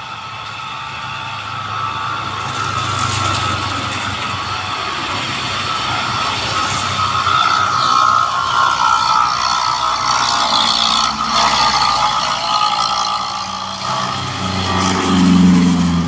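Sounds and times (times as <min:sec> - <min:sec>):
motorcycles passing: 0:00.0 - 0:16.0
truck engine passing close: 0:00.0 - 0:16.0
tyres hissing through water: 0:00.2 - 0:15.9.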